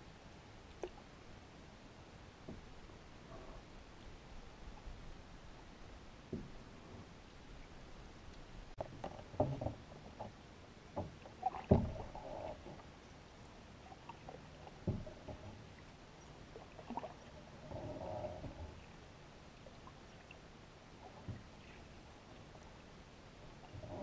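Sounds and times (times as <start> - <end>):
paddle water swishing and dripping: 0.0 - 24.0.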